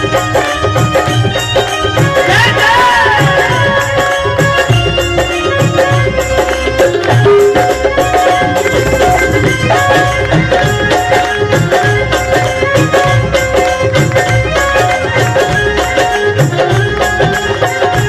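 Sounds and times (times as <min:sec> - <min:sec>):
hand-drum rhythm: 0:00.0 - 0:18.0
sliding keyboard melody: 0:00.0 - 0:18.0.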